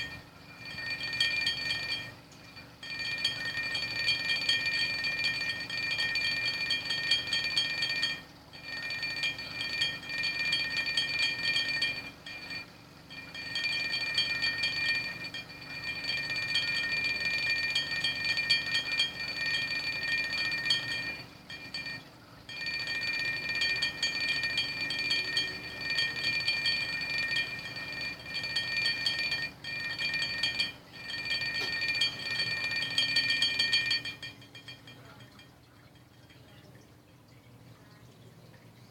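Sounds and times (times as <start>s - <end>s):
glasses clinking: 0.0s - 36.8s
washing machine rumble: 0.0s - 38.9s.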